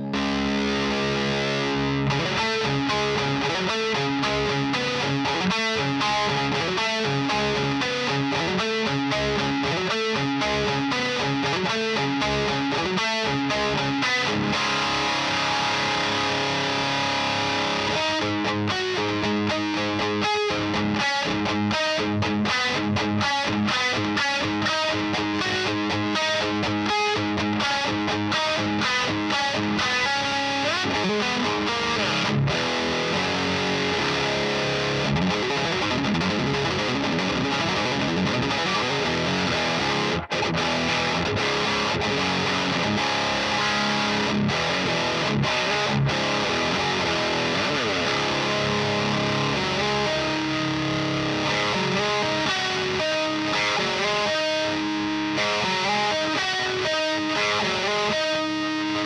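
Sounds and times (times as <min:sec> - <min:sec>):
distorted electric guitar riffs: 0:00.0 - 0:59.0.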